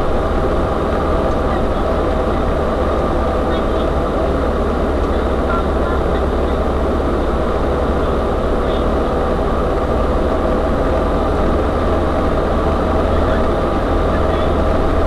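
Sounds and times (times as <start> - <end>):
van engine droning: 0.0 - 15.0.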